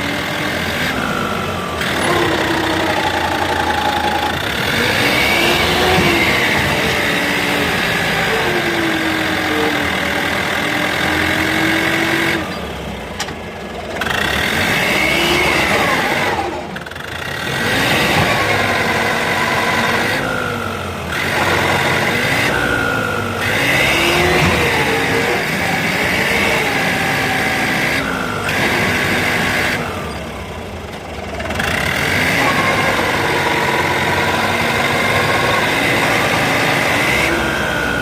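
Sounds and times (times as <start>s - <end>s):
tractor diesel engine straining: 0.0s - 38.0s.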